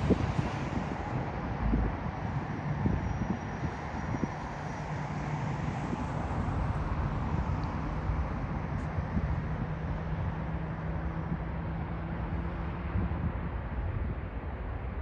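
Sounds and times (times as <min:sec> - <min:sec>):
jet airliner engine roar: 0:00.0 - 0:15.0
wind rumble on microphone: 0:00.0 - 0:15.0.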